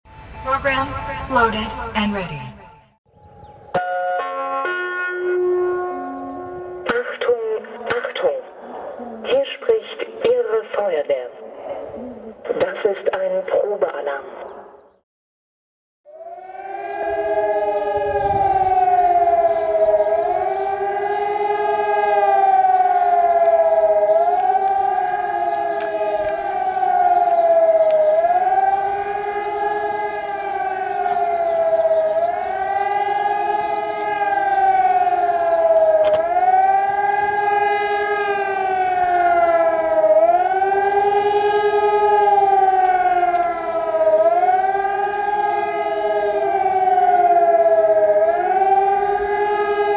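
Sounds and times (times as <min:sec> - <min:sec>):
wailing warning siren: 0:00.1 - 0:12.0, 0:16.1 - 0:49.9.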